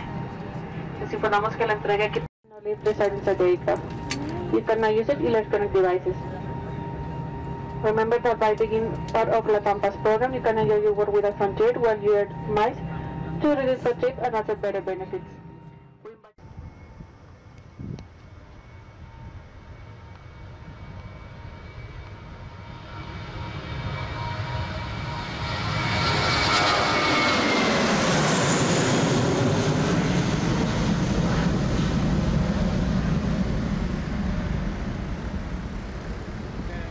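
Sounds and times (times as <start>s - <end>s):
jet airliner passing overhead: 0.0s - 36.9s.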